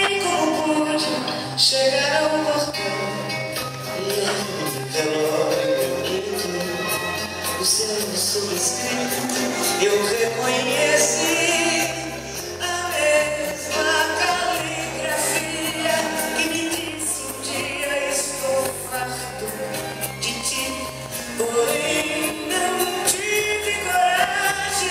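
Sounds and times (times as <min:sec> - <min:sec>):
backing music with bass: 0:00.0 - 0:24.9
person singing with vibrato: 0:00.0 - 0:24.9.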